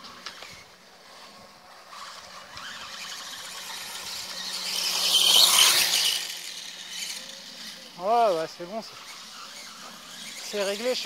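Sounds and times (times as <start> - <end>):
rc bike motor whining: 0.0 - 11.0.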